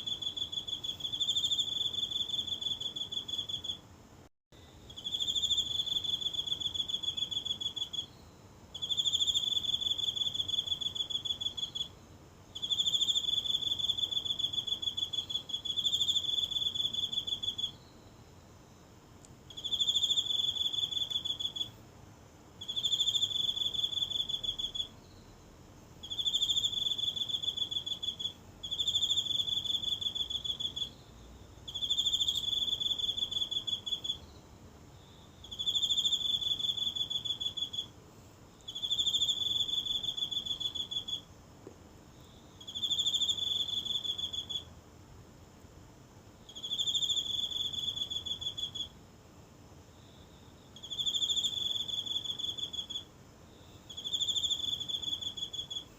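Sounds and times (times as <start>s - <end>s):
insect high-pitched trills: 0.0s - 3.8s, 4.6s - 18.9s, 19.5s - 21.8s, 22.6s - 38.0s, 38.6s - 41.3s, 42.1s - 44.7s, 46.4s - 49.0s, 49.9s - 55.9s.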